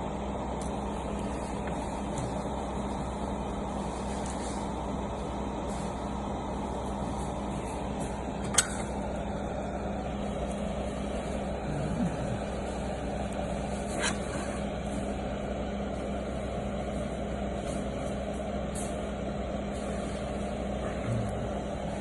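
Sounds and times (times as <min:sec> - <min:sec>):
constant low hum: 0:00.0 - 0:22.0
steady background rumble: 0:00.0 - 0:22.0.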